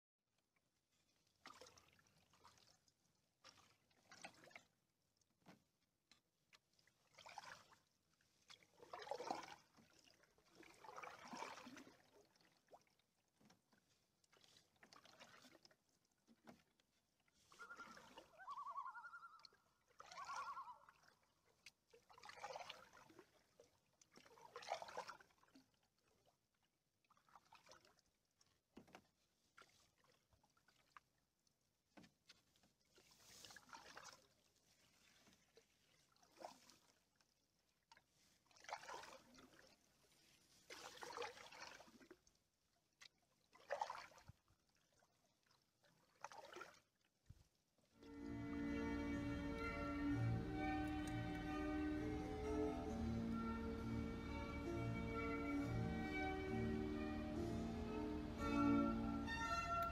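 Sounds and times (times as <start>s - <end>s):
paddle swishing in water: 0.6s - 59.9s.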